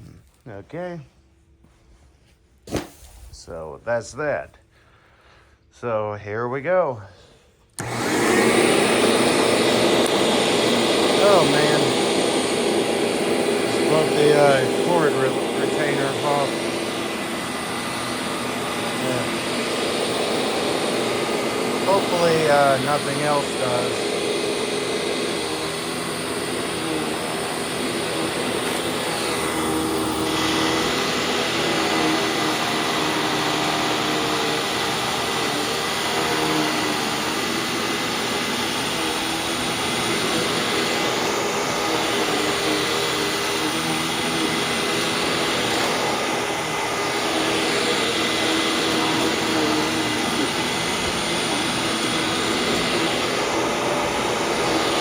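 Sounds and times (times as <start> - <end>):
vacuum cleaner running on rug: 7.8 - 55.0.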